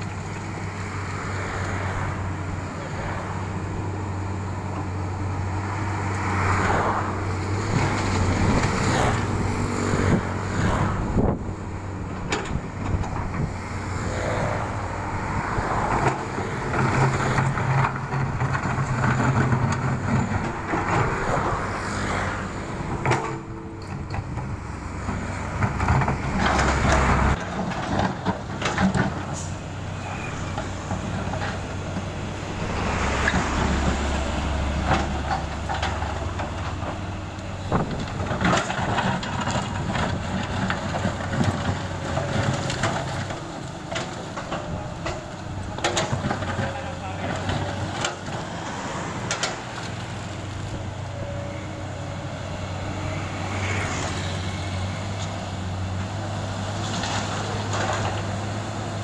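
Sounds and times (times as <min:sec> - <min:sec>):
excavator diesel engine running: 0:00.0 - 0:59.0
road traffic passing: 0:00.0 - 0:59.0.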